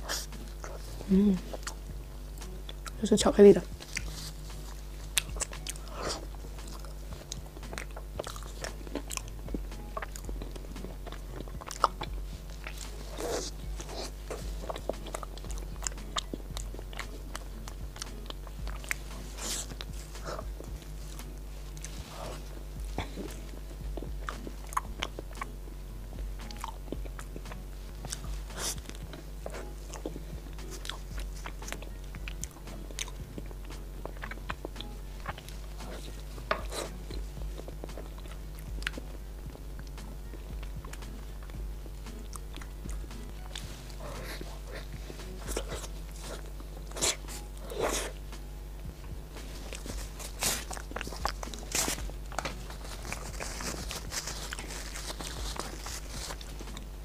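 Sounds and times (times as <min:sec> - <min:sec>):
chewing with wet mouth clicks: 0:00.0 - 0:03.0, 0:03.7 - 0:25.6, 0:26.2 - 0:57.0
steady low hum: 0:00.0 - 0:57.0.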